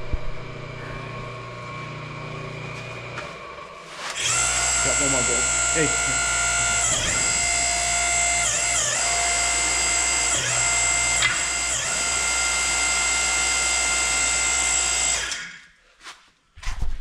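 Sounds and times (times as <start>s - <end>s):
hydraulic pump whining: 0.0s - 15.6s.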